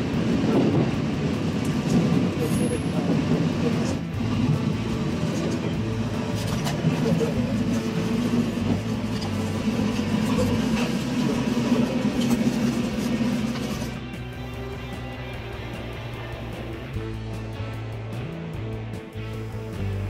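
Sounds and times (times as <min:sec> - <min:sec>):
train rumble and motor hum: 0:00.0 - 0:20.0.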